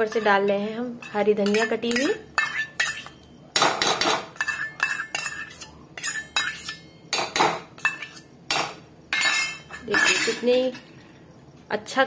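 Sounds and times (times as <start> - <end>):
steel spoon clinking on metal bowl: 0.0 - 10.9.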